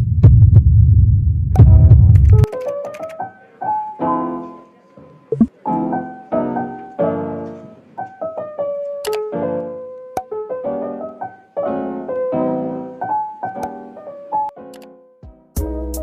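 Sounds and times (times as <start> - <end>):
slow piano chords: 1.7 - 16.0.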